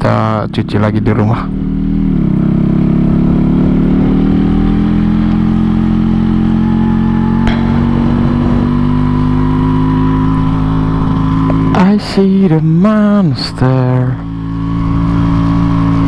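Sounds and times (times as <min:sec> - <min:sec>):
two-stroke motorcycle engine running: 0:00.0 - 0:16.0.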